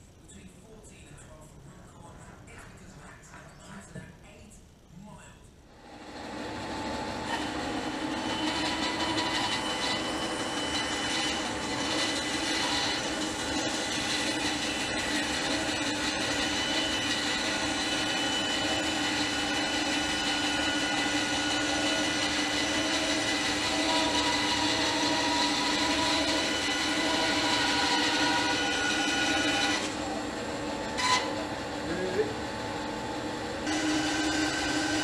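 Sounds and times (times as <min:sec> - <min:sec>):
bandsaw cutting wood: 0:06.0 - 0:35.0.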